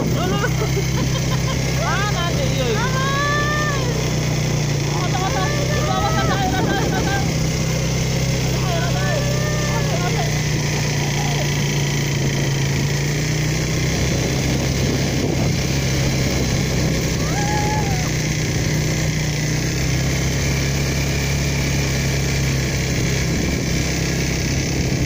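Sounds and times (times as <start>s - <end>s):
atv engine droning: 0.0s - 25.0s.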